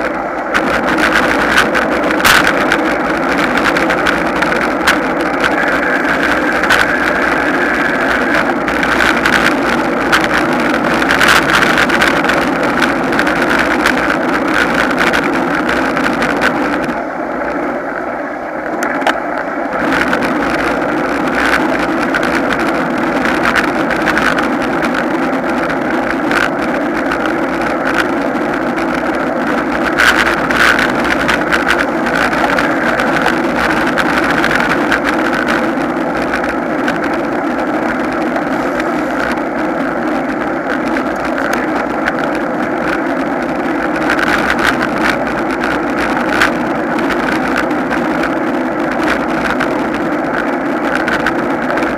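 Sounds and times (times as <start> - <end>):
bicycle road noise: 0.0 - 51.9
wind rush on microphone: 0.0 - 51.9.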